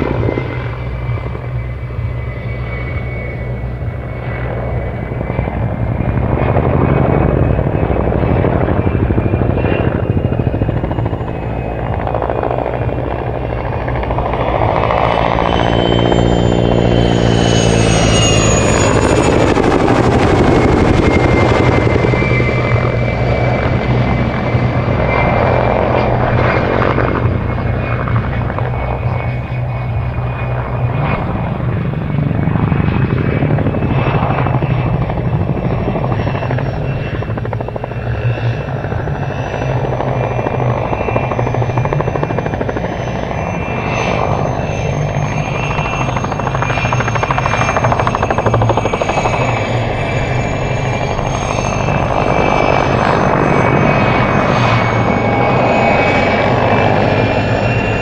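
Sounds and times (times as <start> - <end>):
helicopter rotor chopping: 0.0 - 58.0
helicopter turbine whine: 0.0 - 58.0.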